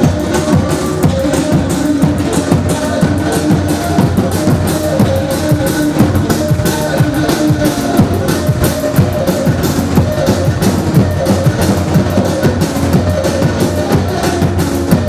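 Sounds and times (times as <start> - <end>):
amplified dance music: 0.0 - 15.0
quick steady drum beat: 0.0 - 15.0.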